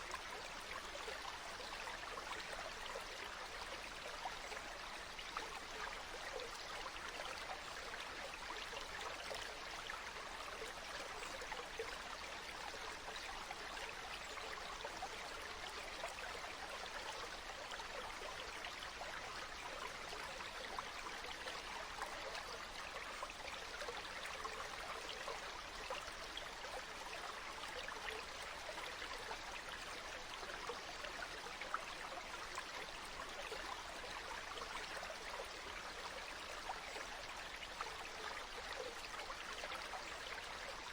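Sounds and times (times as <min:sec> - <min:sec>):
stream trickling and burbling: 0:00.0 - 0:40.9.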